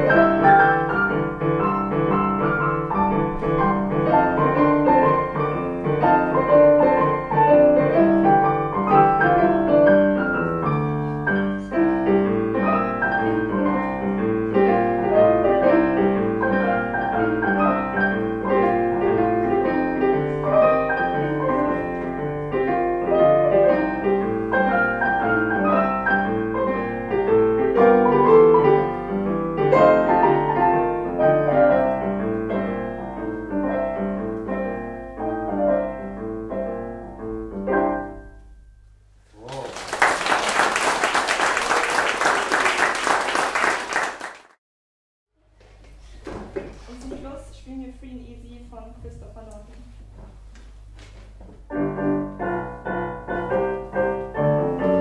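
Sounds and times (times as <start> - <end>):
piano piece: 0.0 - 44.6, 45.4 - 55.0.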